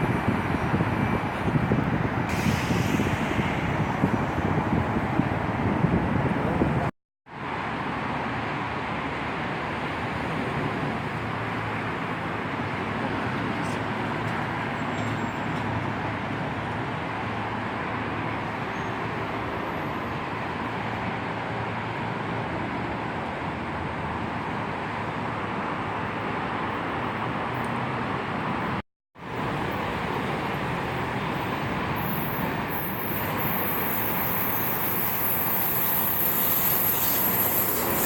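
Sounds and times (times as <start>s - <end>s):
steady vehicle noise: 0.0s - 38.0s.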